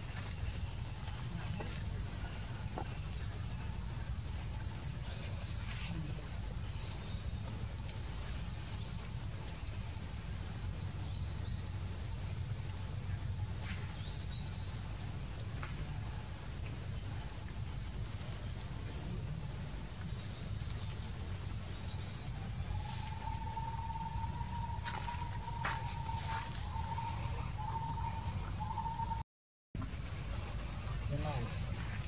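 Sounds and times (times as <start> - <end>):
insects droning: 0.0 - 29.2, 29.8 - 32.0.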